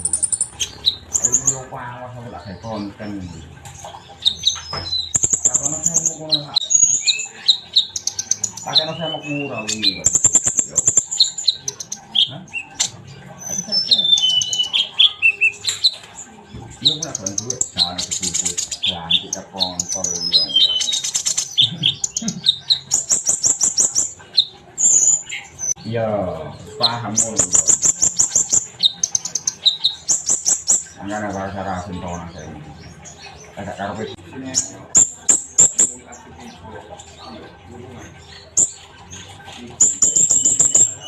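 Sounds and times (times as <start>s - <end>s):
bird chirps and trills: 0.0s - 41.0s.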